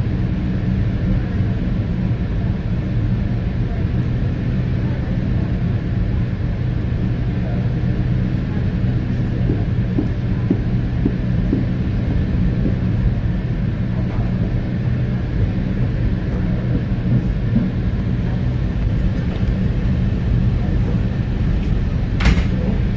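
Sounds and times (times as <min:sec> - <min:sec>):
low hum: 0:00.0 - 0:22.9
train wheels rumbling on rails: 0:00.0 - 0:22.9.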